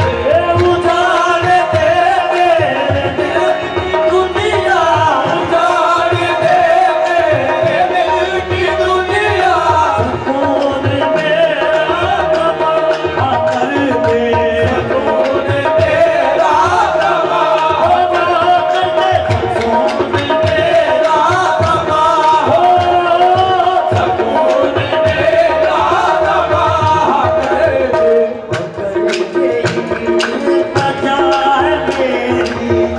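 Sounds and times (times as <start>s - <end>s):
tabla beat: 0.0s - 32.9s.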